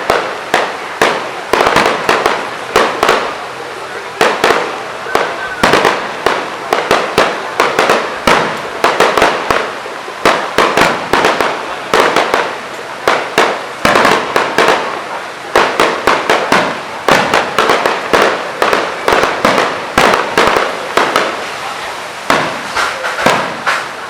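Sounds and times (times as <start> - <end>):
fireworks bursting: 0.0 - 24.0
fireworks crackling: 0.0 - 24.0.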